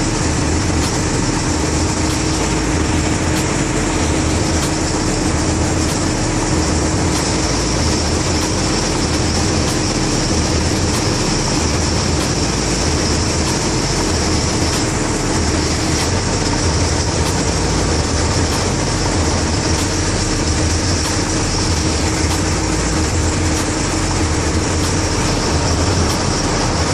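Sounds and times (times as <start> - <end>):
boat engine droning: 0.0 - 26.9.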